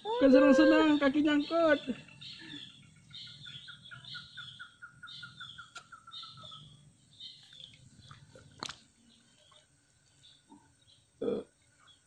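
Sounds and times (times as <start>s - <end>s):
higher bird chirps: 0.1s - 12.0s.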